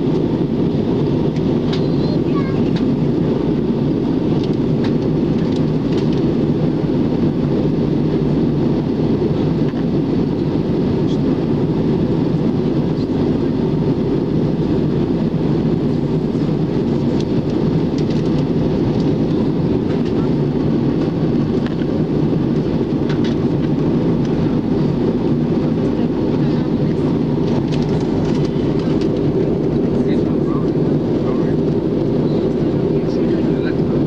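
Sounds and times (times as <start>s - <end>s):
aircraft cabin engine roar: 0.0s - 34.0s.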